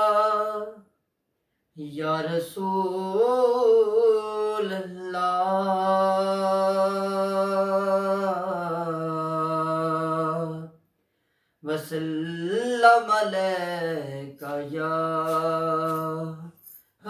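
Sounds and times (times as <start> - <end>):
man singing unaccompanied: 0.0 - 0.9, 1.7 - 10.8, 11.6 - 16.8.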